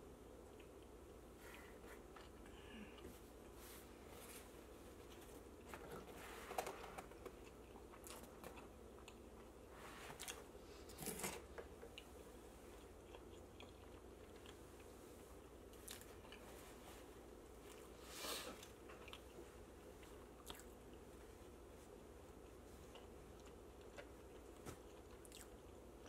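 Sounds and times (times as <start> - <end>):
person chewing food: 0.4 - 3.9, 7.0 - 26.0.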